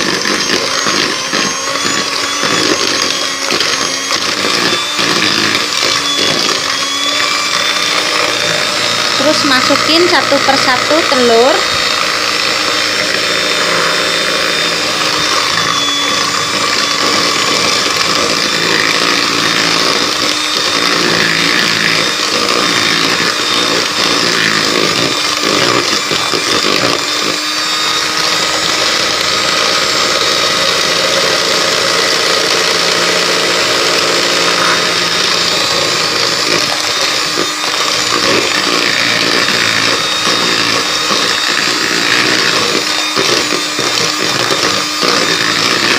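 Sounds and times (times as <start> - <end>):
electric hand mixer whisking: 0.0 - 45.9.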